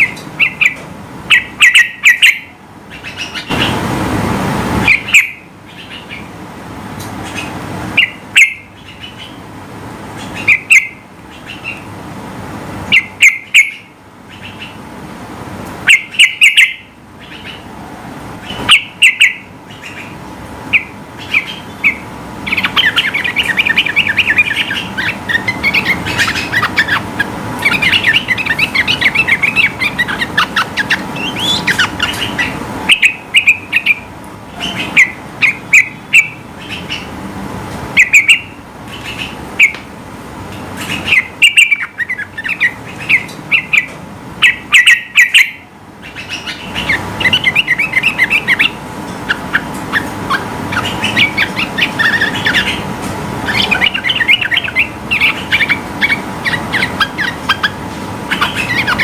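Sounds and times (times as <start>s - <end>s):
bulbul singing: 0.0s - 3.8s, 4.8s - 6.4s, 7.0s - 12.0s, 12.8s - 14.8s, 15.8s - 17.7s, 18.4s - 37.2s, 37.9s - 39.9s, 40.7s - 59.0s.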